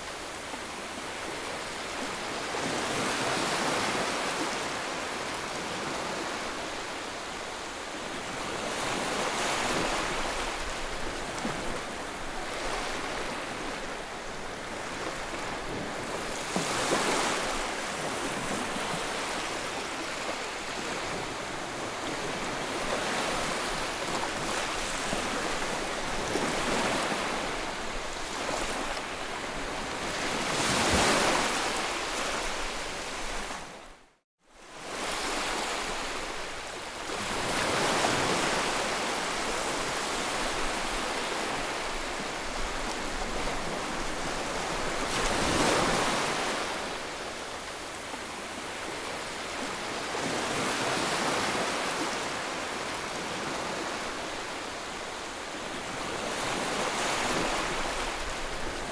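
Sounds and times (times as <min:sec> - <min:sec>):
ocean waves breaking: 0:08.2 - 0:33.8, 0:37.1 - 0:58.9.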